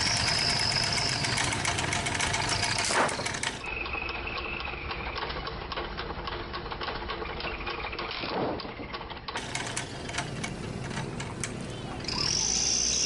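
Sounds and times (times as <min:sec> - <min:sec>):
diesel engine knocking: 0:00.0 - 0:08.1, 0:08.8 - 0:12.8.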